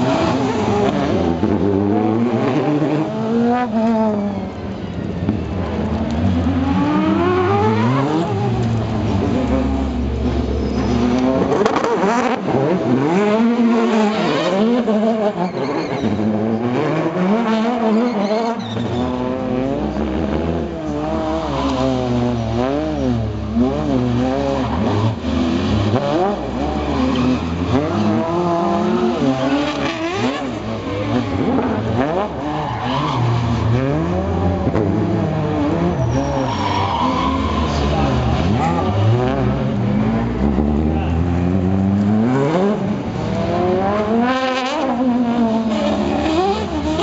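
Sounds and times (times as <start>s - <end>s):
race car engines revving: 0.0s - 47.0s.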